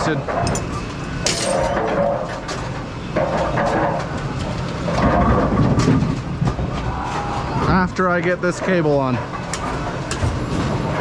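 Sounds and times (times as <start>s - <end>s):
bowling pinsetter machinery running: 0.0s - 11.0s.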